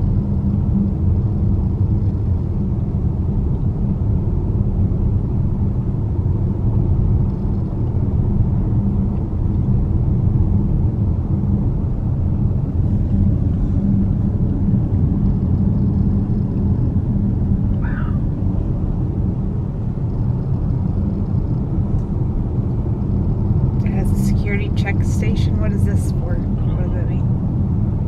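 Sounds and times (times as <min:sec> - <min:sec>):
road and engine rumble in car: 0:00.0 - 0:28.0.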